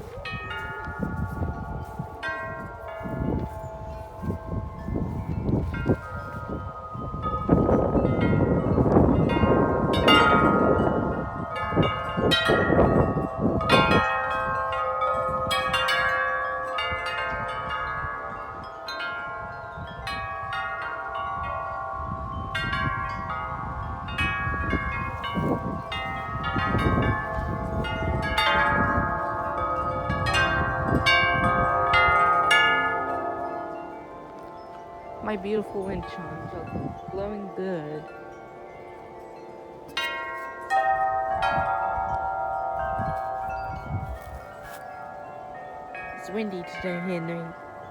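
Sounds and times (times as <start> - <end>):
metal wind chimes ringing: 0.0 - 47.9
wind gusts on microphone: 0.0 - 47.9.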